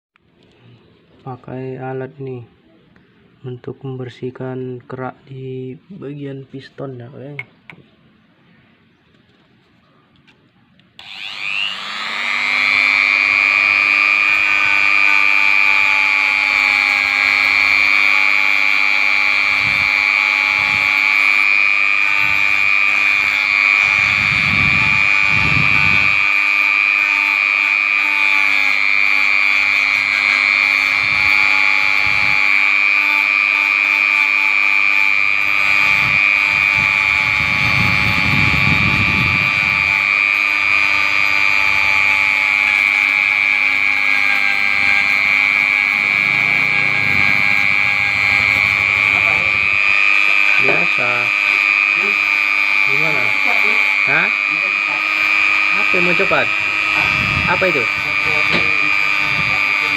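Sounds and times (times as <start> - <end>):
motor tool high whine: 10.9 - 59.9.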